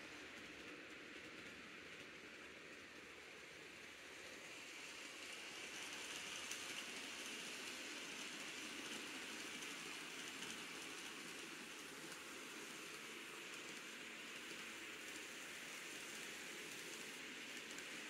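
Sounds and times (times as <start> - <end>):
model train motor and wheels whirring: 0.0 - 18.0.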